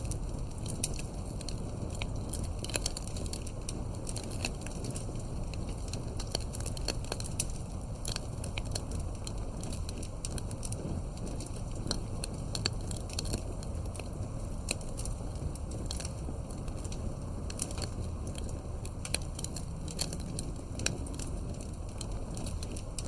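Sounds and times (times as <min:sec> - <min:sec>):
campfire pops and snaps: 0:00.0 - 0:23.0
low rumble of fire: 0:00.0 - 0:23.0.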